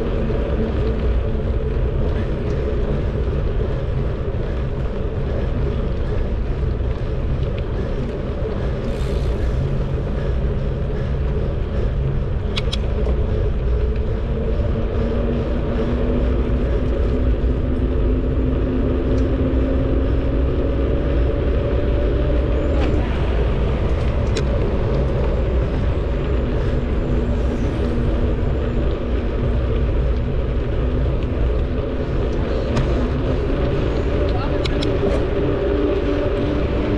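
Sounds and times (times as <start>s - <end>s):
bicycle tyres on pavement: 0.0s - 36.9s
wind on microphone: 0.0s - 36.9s.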